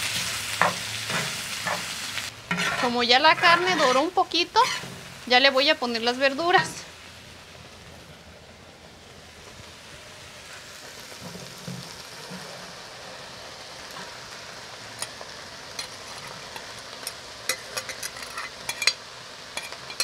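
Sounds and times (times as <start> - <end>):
beef and vegetables sizzling: 0.0 - 20.0.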